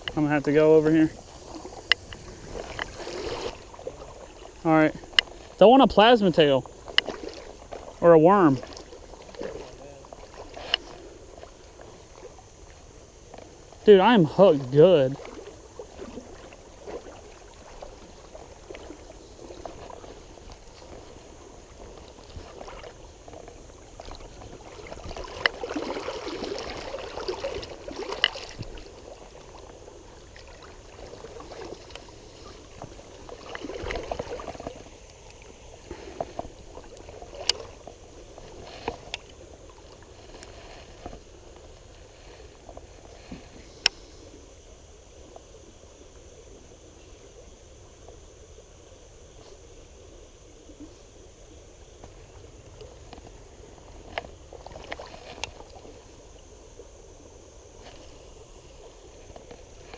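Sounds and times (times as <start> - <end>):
water splashing around wading person: 0.0 - 45.8, 49.3 - 59.9
faint stream noise: 0.0 - 59.9.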